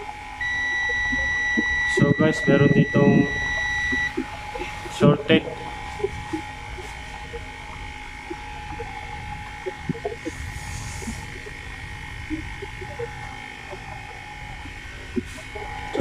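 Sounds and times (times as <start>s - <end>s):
multimeter continuity buzzer: 0.0s - 16.0s.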